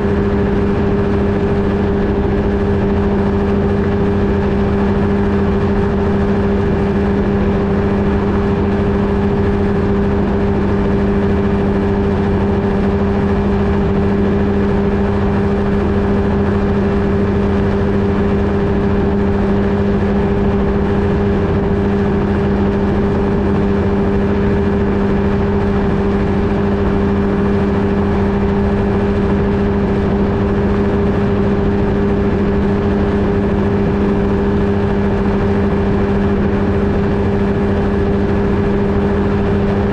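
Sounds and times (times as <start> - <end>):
light aircraft engine running: 0.0 - 39.9
steady rushing noise: 0.0 - 39.9.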